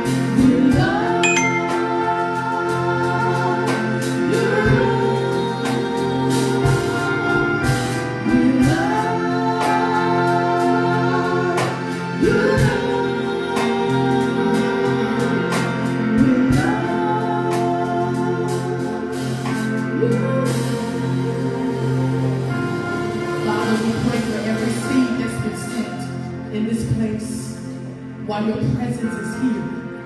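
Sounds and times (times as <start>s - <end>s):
voices singing: 0.0s - 27.6s
keyboard chords: 0.0s - 30.0s.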